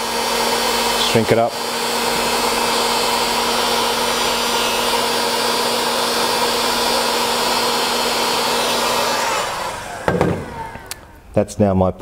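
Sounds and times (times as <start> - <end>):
heat gun fan blowing: 0.0 - 11.3.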